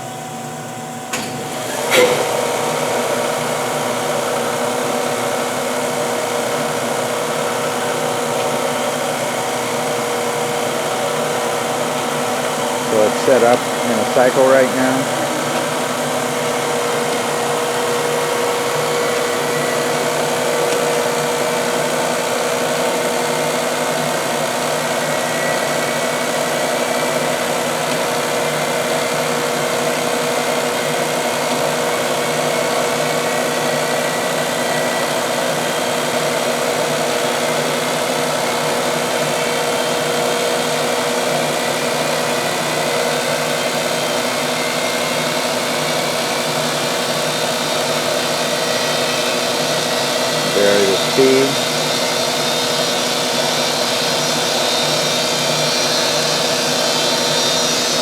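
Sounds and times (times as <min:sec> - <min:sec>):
grinder machine hum: 0:01.3 - 0:58.0.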